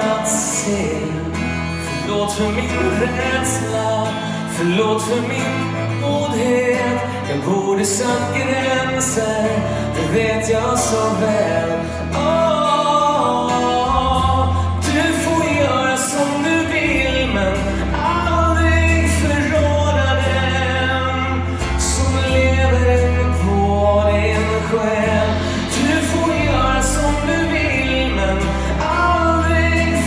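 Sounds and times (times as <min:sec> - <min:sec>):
bass: 0:00.0 - 0:30.0
drums: 0:00.0 - 0:30.0
piano: 0:00.0 - 0:30.0.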